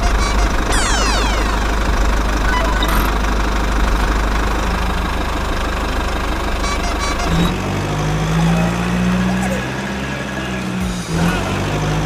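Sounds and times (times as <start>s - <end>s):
engine idling with knocking: 0.0s - 12.0s.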